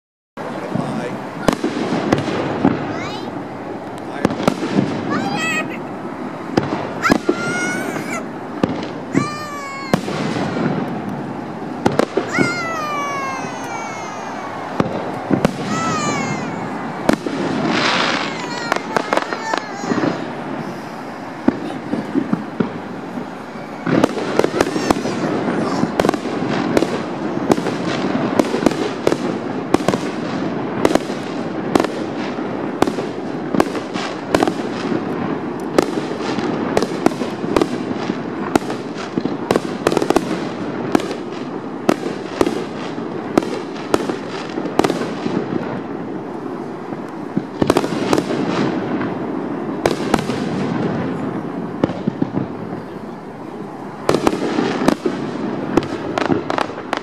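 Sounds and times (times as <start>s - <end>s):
fireworks rumble and crackle: 0.4s - 57.0s
firework shells bursting: 0.7s - 52.8s.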